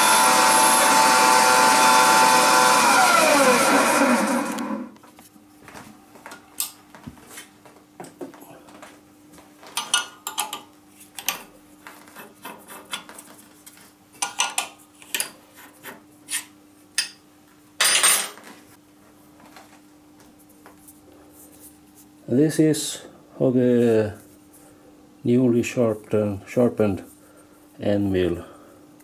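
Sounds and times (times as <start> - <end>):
faint steady hum: 4.8 - 29.0.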